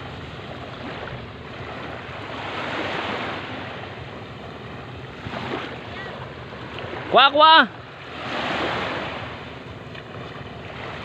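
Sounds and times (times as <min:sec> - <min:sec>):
waves washing on shore: 0:00.0 - 0:11.0.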